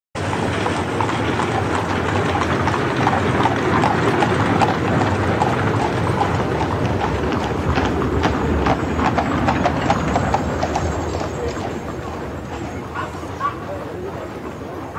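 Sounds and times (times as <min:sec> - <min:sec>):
horse hooves clip-clopping: 0:00.2 - 0:14.9
steady noisy rumble: 0:00.2 - 0:14.9.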